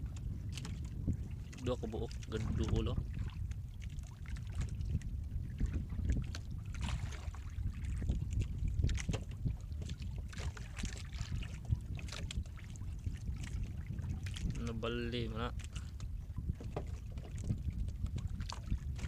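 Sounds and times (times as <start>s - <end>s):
sea: 0.0s - 19.0s
wind: 0.0s - 19.0s.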